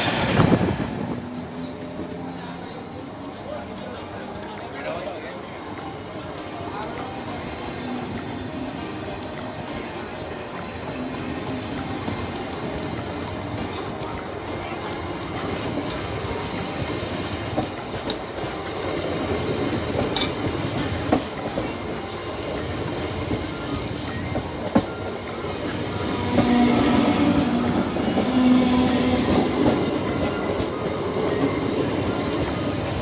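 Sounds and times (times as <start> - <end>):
clickety-clack over rail joints: 0.0 - 33.0
rumble of wheels on rails: 0.0 - 33.0.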